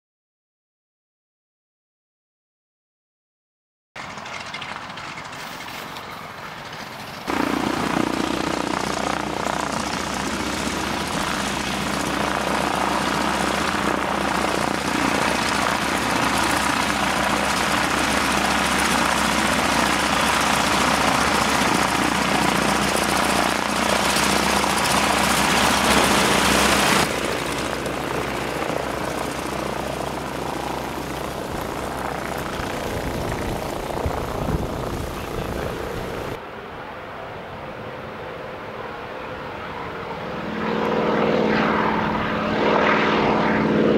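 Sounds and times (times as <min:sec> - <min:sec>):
propeller plane engine droning: 0:04.0 - 0:43.9.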